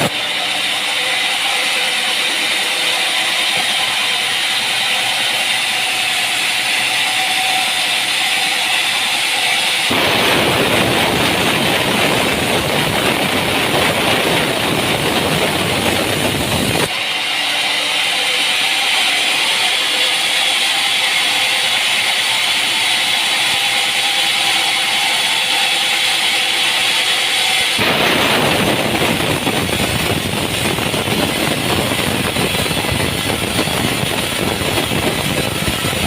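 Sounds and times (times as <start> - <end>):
machine running with high hiss: 0.0 - 36.0.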